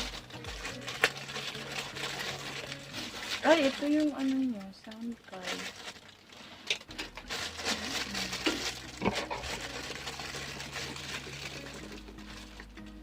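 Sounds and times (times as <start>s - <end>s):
low background music: 0.0s - 13.0s
packaging rustling: 0.0s - 13.0s.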